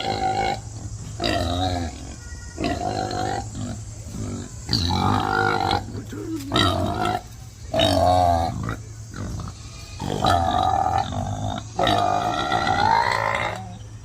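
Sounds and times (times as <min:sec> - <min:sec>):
farm animal calling: 0:00.0 - 0:14.0.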